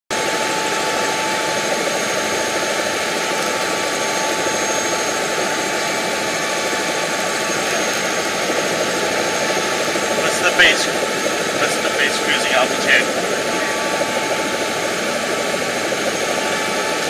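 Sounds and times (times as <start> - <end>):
helicopter engine and rotors running: 0.1 - 17.0.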